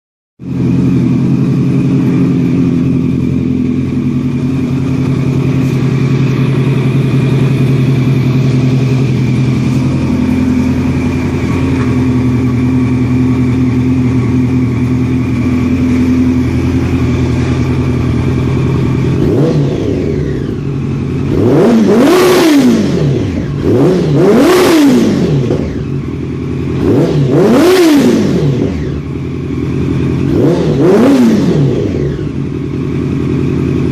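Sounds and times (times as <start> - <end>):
engine revving: 0.4 - 33.9
motorcycle engine idling: 0.4 - 33.9.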